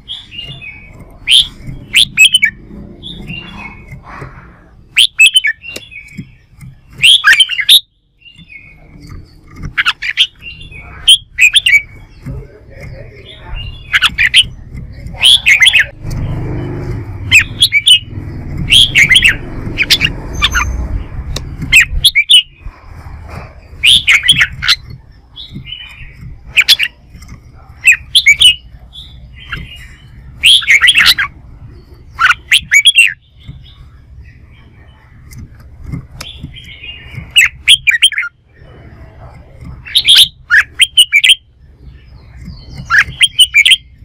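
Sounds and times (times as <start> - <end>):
low rumbling noise: 0.0 - 7.2, 8.1 - 44.0
bird whistling song: 0.0 - 16.0, 17.2 - 22.8, 23.6 - 27.0, 27.6 - 35.1, 36.2 - 44.0.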